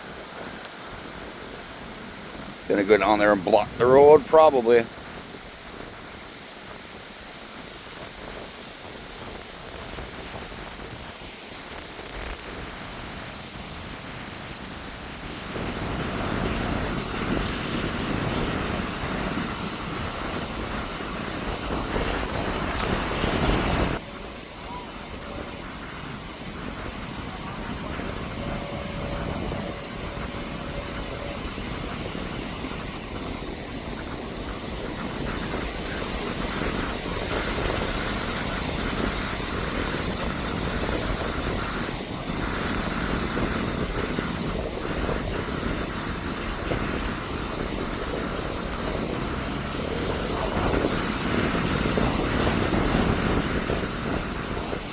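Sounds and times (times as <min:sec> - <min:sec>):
strong gusting wind: 0:00.0 - 0:54.9.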